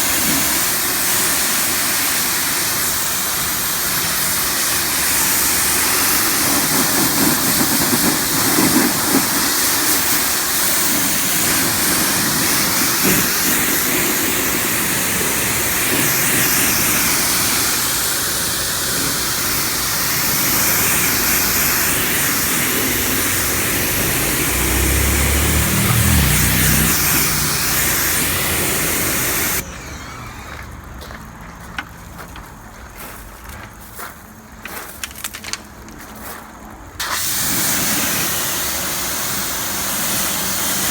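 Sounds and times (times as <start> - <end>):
pressure washer spraying water: 0.0 - 30.6, 37.0 - 40.9.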